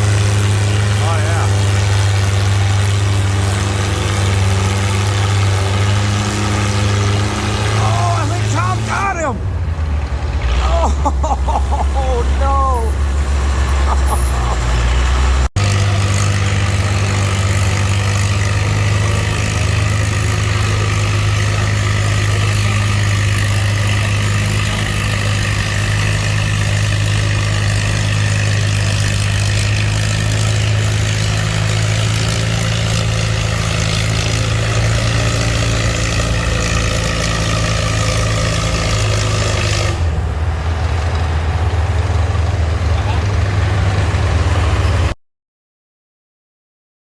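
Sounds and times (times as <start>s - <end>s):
tractor engine running: 0.0s - 45.2s
wide noisy layer: 0.0s - 45.2s.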